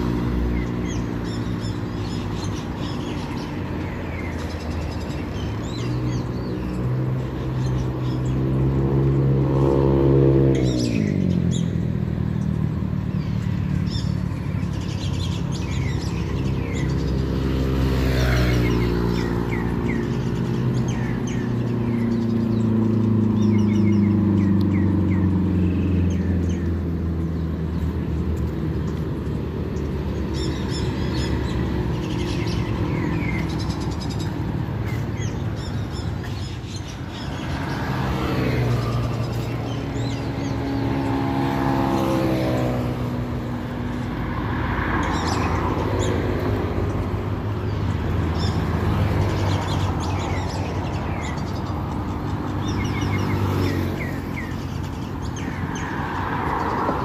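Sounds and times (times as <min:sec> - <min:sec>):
birds chirping: 0:00.0 - 0:57.0
road traffic passing: 0:00.0 - 0:57.0.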